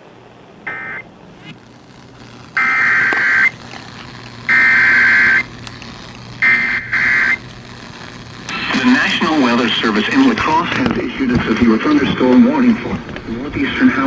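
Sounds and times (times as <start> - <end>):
harsh buzzing data bursts: 0.6 - 14.0.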